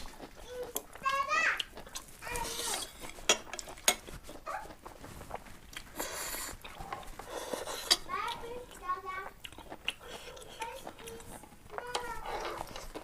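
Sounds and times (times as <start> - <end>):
noisy eating sounds: 0.0 - 13.0.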